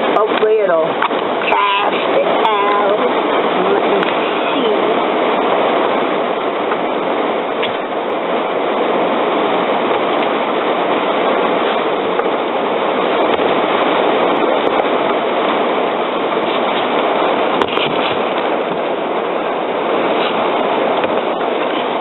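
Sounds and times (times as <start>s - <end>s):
heavy rain on van roof: 0.0s - 22.0s.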